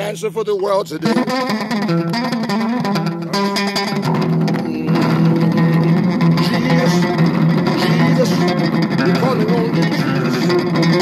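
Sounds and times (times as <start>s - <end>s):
backing groove: 0.0s - 11.0s
bass guitar plucked notes: 0.0s - 11.0s.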